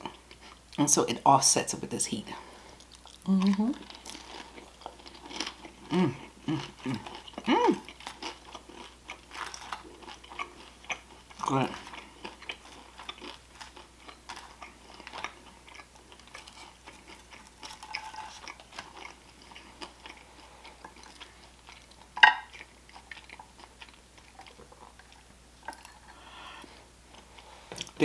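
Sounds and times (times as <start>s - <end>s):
person chewing food: 0.0s - 0.8s, 2.4s - 28.0s.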